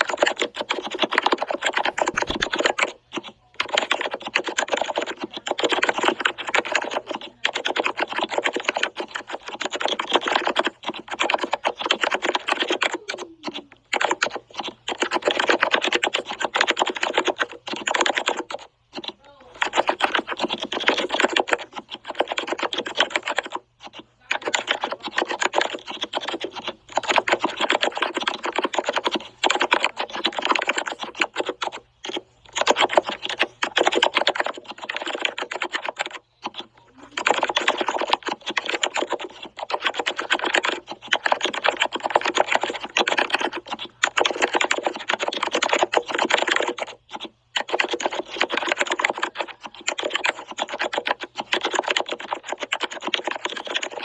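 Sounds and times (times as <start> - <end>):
fast typing on keyboard: 0.0 - 54.0.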